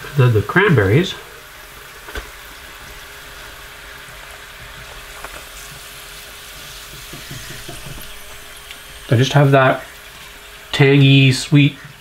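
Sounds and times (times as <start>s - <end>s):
hot fat sizzling: 0.0s - 12.0s.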